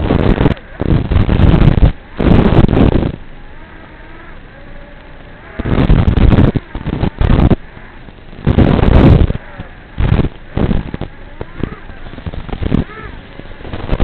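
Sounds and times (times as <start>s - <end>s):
faint wavering whine: 0.0s - 14.0s
wind buffeting microphone: 0.0s - 14.0s.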